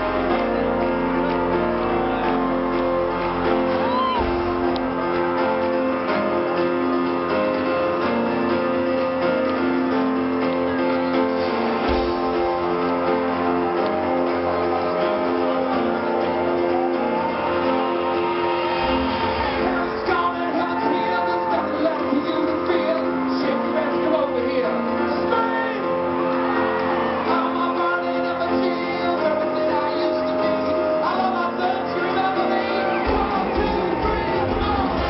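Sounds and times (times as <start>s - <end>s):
live pop-rock music over pa: 0.0s - 35.0s.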